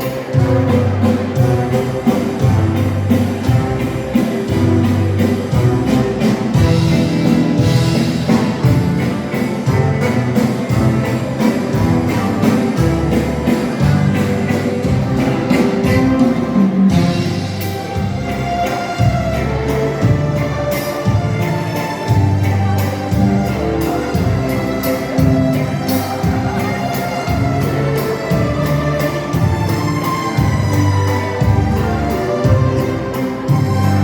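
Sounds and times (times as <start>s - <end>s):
waltz music: 0.0s - 34.0s.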